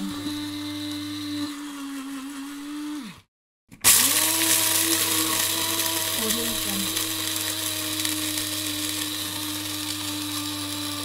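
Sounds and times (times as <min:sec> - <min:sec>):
electric coffee grinder running: 0:00.0 - 0:11.0.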